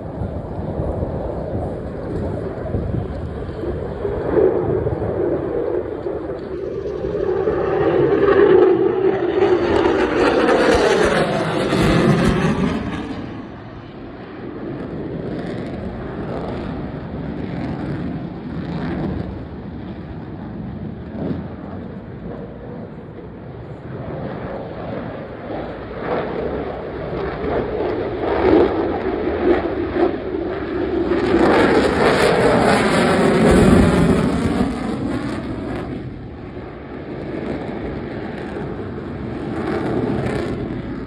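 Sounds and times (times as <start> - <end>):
fighter jet passing: 0.0 - 41.0.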